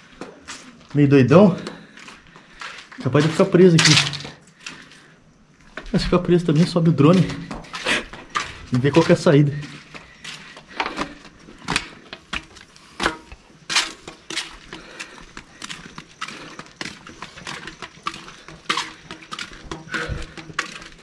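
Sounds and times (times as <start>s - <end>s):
footsteps on concrete: 0.0s - 21.0s.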